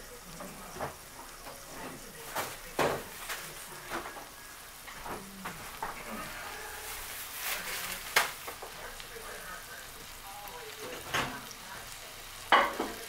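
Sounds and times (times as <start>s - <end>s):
chicken sizzling in a pan: 0.0s - 13.0s
fat popping and crackling: 0.3s - 6.2s, 7.2s - 9.2s, 9.8s - 13.0s.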